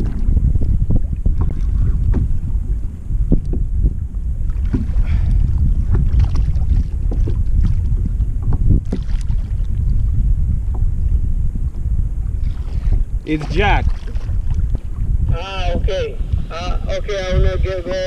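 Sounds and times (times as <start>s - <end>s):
water slapping against kayak: 0.0s - 16.5s
wind buffeting microphone: 0.0s - 18.0s.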